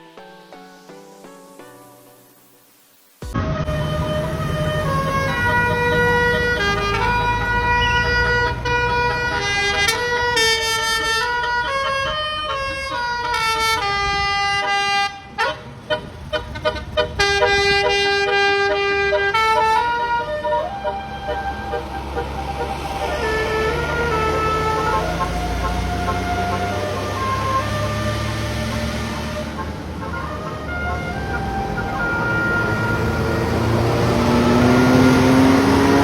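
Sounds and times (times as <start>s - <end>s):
bus engine running: 3.3s - 36.0s
musical bus air horns: 3.4s - 36.0s.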